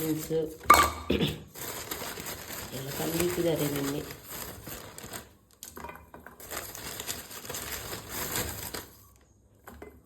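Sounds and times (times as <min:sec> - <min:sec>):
kitchen items rustling and clicking: 0:00.0 - 0:10.0.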